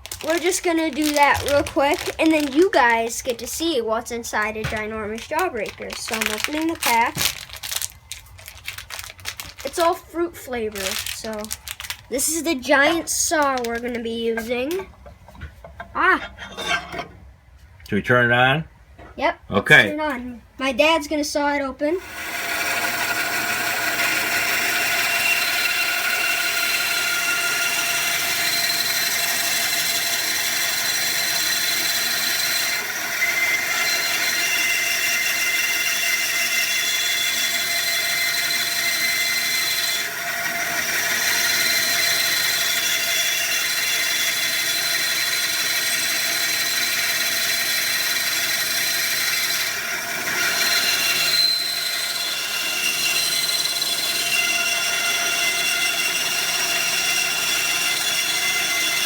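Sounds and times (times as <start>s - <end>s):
electric saw cutting hard candy: 0.0s - 15.0s, 22.0s - 59.0s.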